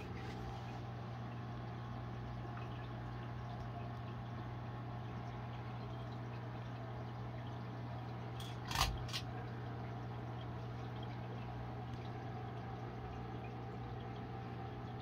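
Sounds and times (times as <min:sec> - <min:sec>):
aquarium filter humming: 0:00.0 - 0:15.0
water trickling: 0:00.0 - 0:15.0.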